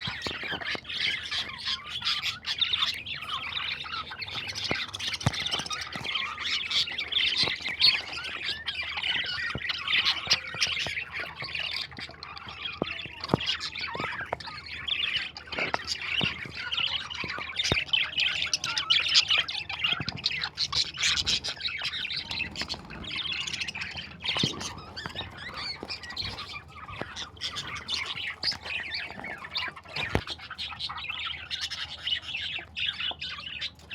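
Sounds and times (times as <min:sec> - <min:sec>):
many birds calling: 0:00.0 - 0:33.9.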